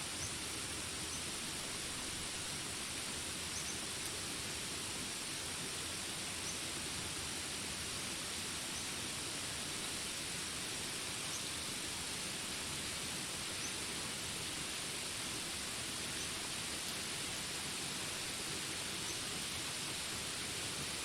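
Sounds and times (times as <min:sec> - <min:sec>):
rain hiss: 0:00.0 - 0:21.0.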